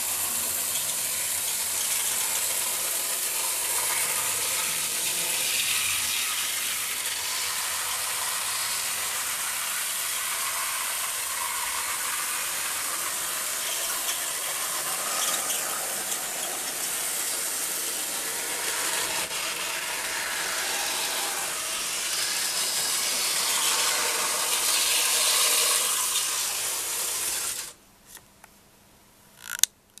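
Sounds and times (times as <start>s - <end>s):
model train rattling whirr: 0.0s - 27.8s.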